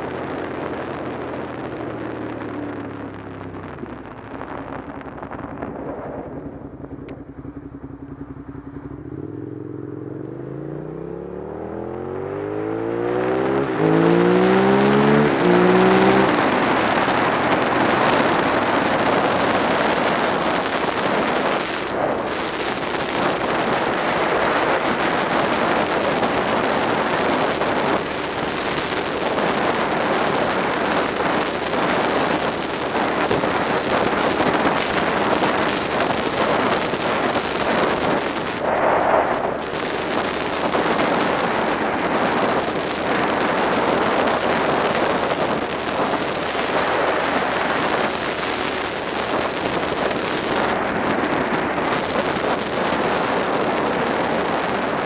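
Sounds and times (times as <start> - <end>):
wind rushing over microphone: 0.0 - 55.0
motorcycle engine: 2.4 - 55.0.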